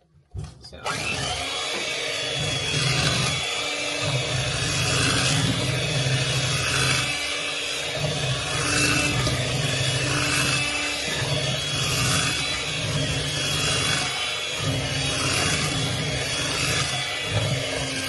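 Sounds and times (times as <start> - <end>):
electric mixer motor hum: 0.8 - 18.0.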